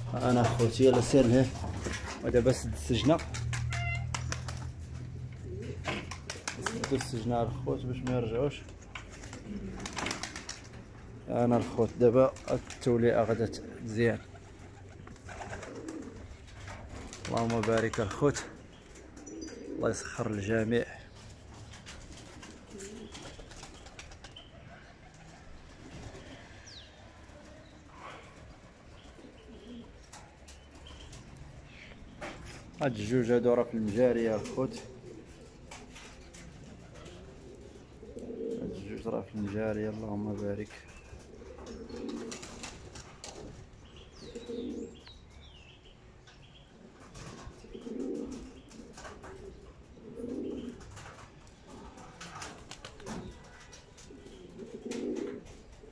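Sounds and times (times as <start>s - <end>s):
pigeons cooing softly: 0.0s - 55.9s.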